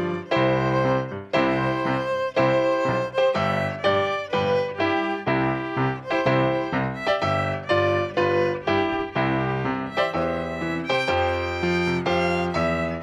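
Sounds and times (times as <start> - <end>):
piano accompaniment: 0.0 - 13.0
violin melody: 0.0 - 13.0.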